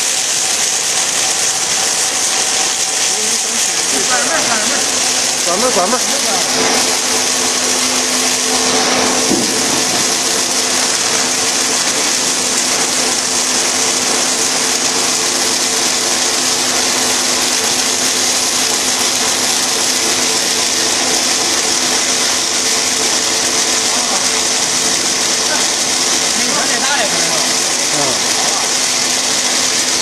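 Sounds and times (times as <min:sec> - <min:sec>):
extruder machine hissing: 0:00.0 - 0:30.0.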